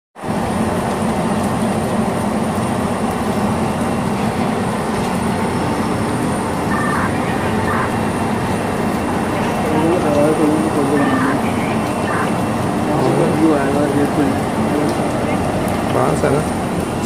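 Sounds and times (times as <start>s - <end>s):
machinery rumble and hum: 0.2s - 17.0s.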